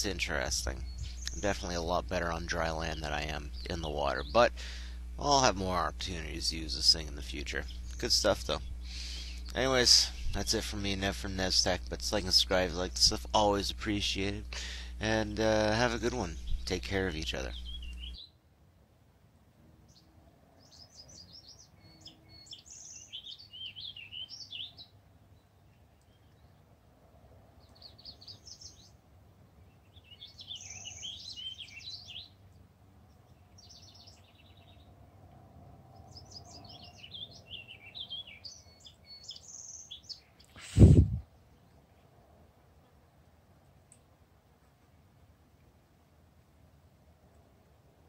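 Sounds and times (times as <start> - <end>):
songbird singing: 0.0 - 18.4, 19.8 - 26.8, 27.5 - 45.8.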